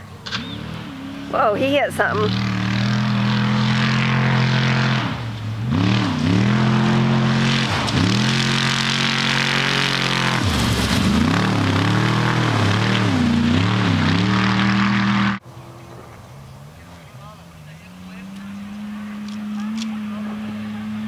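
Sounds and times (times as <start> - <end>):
race car engine running hard: 0.2 - 21.0.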